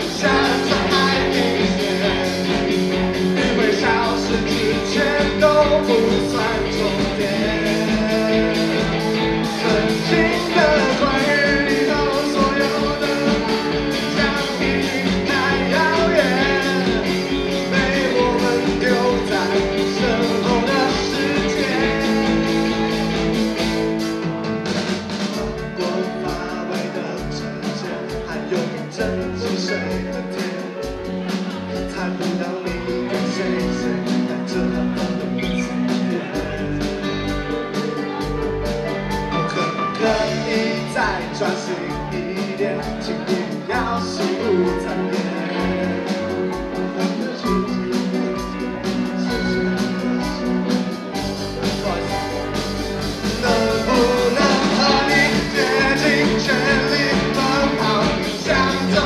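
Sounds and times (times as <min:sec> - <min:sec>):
man singing: 0:00.0 - 0:24.0, 0:25.2 - 0:38.2, 0:39.1 - 0:59.0
live rock band playing: 0:00.0 - 0:59.0.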